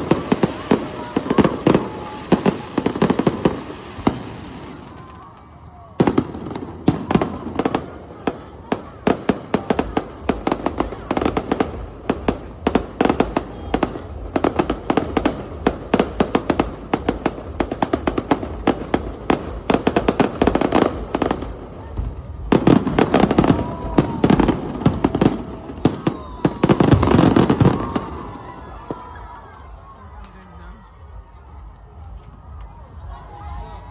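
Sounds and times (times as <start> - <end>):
fireworks crackling and banging: 0.0 - 33.2.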